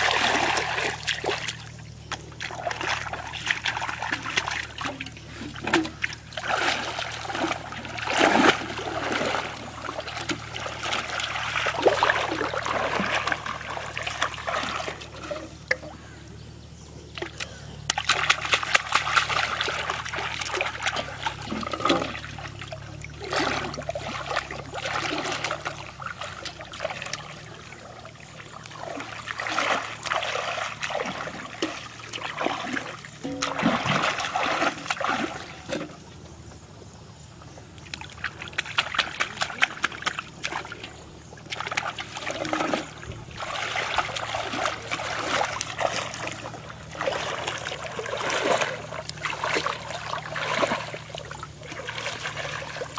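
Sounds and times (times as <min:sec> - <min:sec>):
water splashing and trickling: 0:00.0 - 0:52.9.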